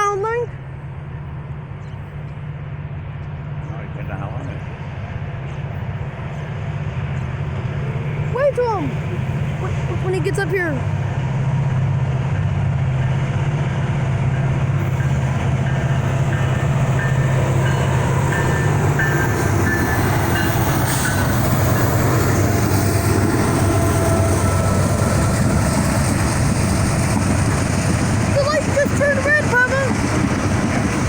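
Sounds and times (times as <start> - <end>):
diesel locomotive engines droning: 0.0 - 31.0
train rumbling on rails: 0.0 - 31.0.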